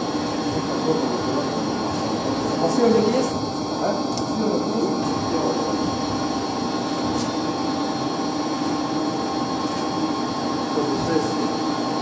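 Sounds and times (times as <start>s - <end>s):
circulation pumps humming: 0.0s - 12.0s.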